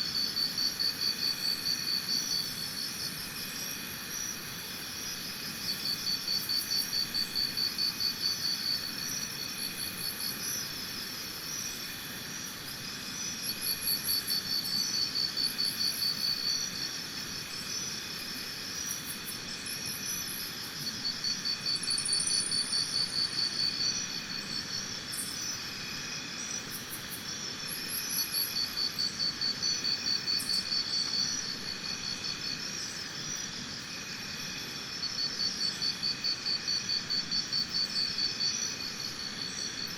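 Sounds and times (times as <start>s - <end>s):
pulsing insect trill: 0.1s - 39.9s
insect chorus shrilling: 0.2s - 39.9s.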